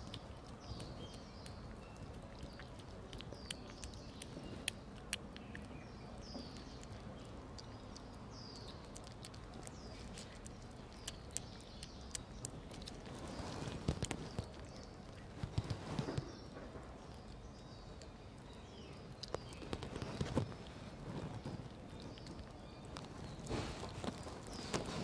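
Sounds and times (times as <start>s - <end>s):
kittens chewing and lapping: 0.0s - 25.0s.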